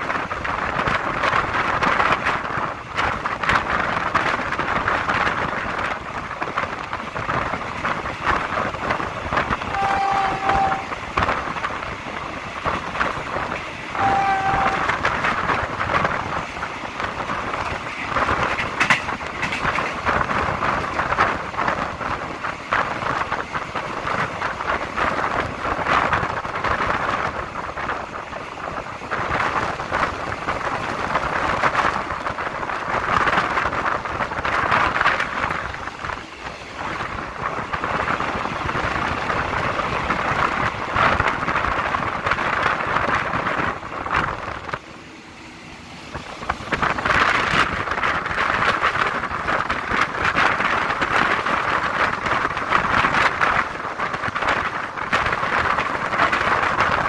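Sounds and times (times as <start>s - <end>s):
train wheels clattering on rails: 0.0s - 57.0s
wind buffeting microphone: 0.0s - 57.0s.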